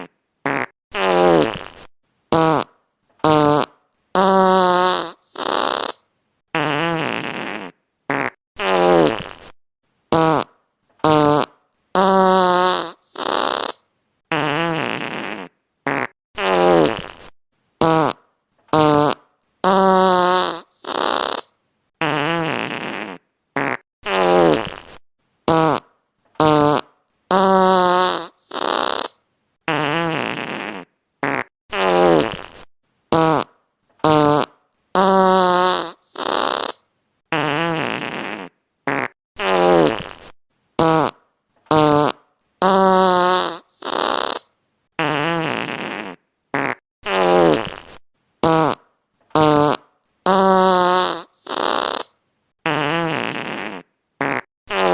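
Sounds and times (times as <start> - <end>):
fart sound effects: 0.0 - 54.9.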